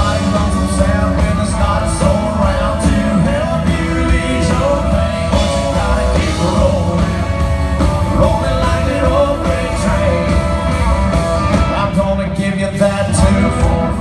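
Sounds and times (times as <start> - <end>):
live country band: 0.0 - 14.0.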